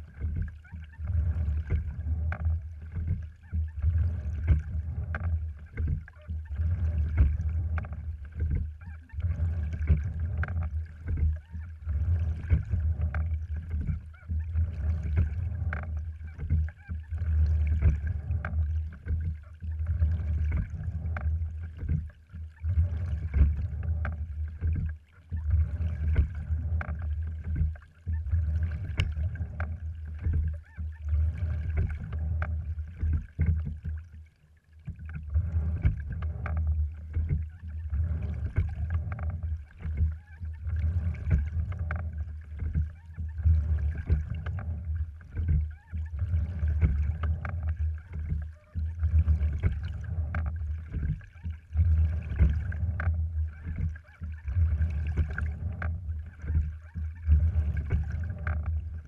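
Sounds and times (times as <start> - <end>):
rowing boat low rumble: 0.0 - 59.0.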